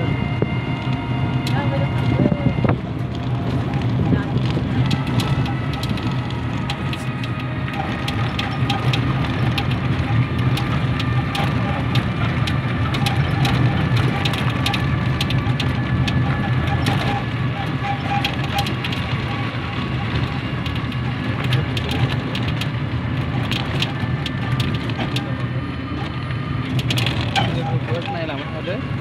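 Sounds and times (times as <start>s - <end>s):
small vehicle engine running: 0.0s - 29.0s
crackling clicks and rattles: 0.4s - 29.0s.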